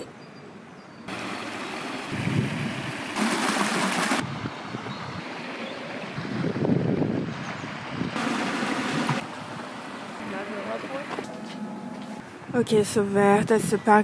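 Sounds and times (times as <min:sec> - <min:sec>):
rushing outdoor background noise: 0:00.0 - 0:14.0.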